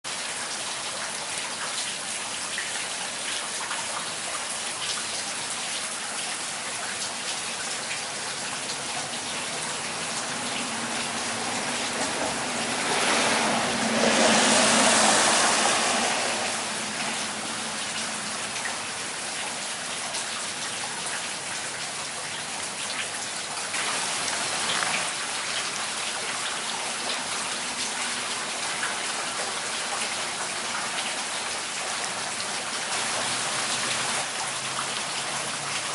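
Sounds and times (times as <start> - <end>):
rain pattering on surfaces: 0.1 - 35.9
rushing rain swell: 0.1 - 35.9.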